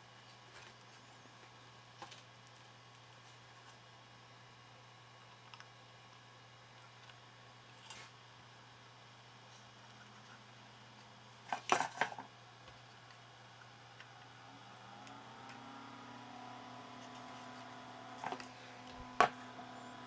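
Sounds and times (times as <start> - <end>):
computer fan whine: 0.0 - 20.0.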